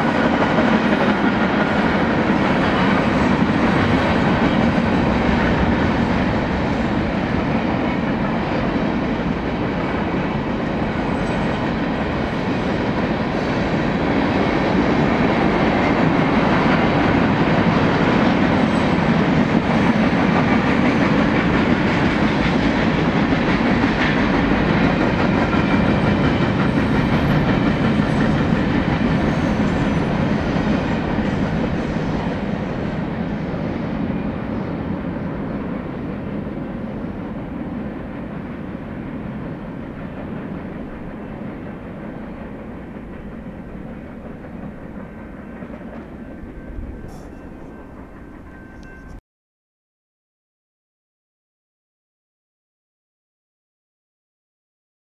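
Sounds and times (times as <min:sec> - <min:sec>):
freight train wheels on rails: 0:00.0 - 0:49.2.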